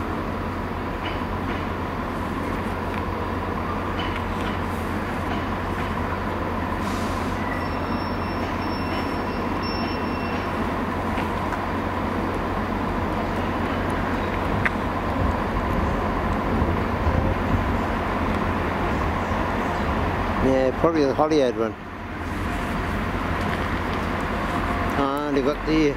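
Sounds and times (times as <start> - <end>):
train engine hum: 0.0 - 25.9
train wheel rumble: 0.0 - 25.9.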